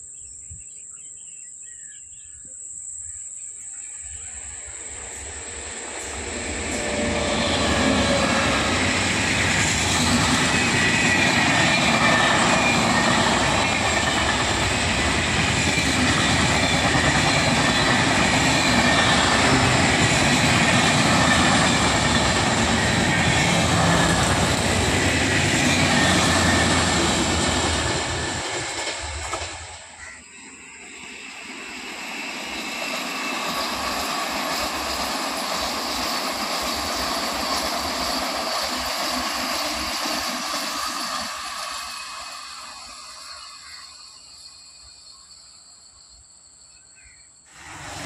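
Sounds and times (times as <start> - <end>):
train wheels on rails: 4.0 - 45.9, 47.5 - 48.0.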